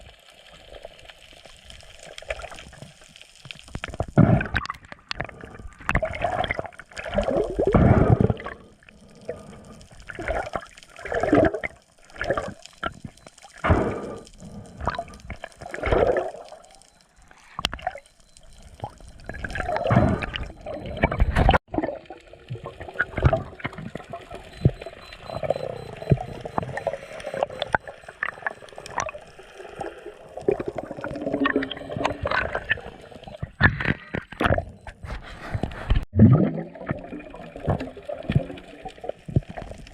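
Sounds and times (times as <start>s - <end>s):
water sloshing and gurgling: 0.7s - 39.9s.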